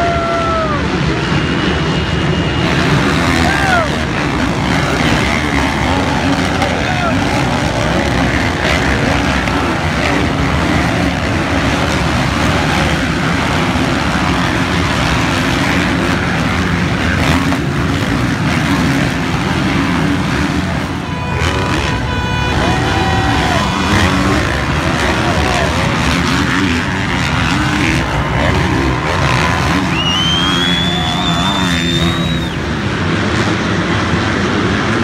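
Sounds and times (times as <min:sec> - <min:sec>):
motocross bikes racing past: 0:00.0 - 0:35.0.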